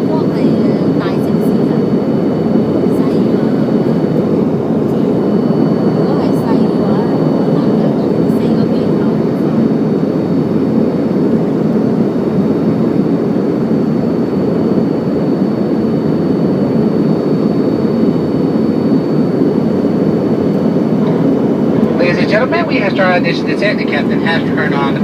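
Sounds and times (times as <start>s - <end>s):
airliner cabin engine rush: 0.0s - 25.0s.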